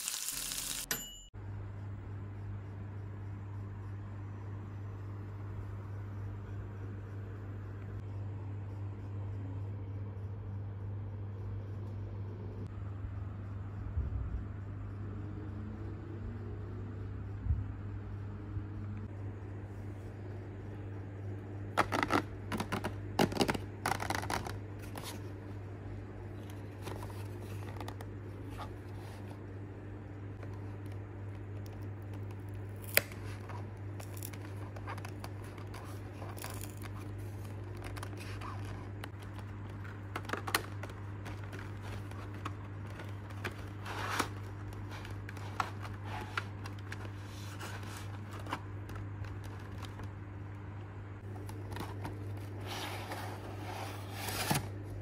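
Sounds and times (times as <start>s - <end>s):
steady low hum: 0.9s - 55.0s.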